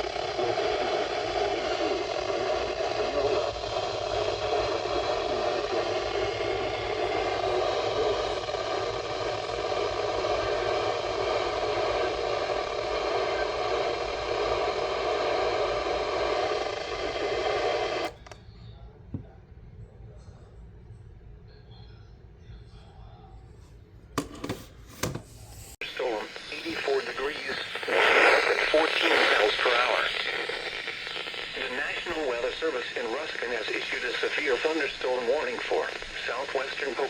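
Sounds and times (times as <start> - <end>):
radio static: 0.0 - 18.4, 24.2 - 37.0.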